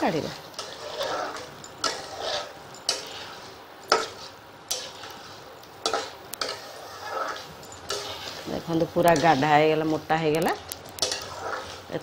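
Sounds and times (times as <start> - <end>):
faint sizzle: 0.0 - 12.0
spatula scraping metal pan: 0.0 - 12.0.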